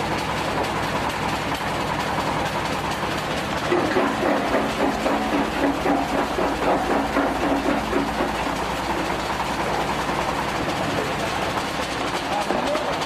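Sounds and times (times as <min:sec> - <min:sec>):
stone crusher engine hum: 0:00.0 - 0:13.0
fast mechanical clatter: 0:00.1 - 0:13.0.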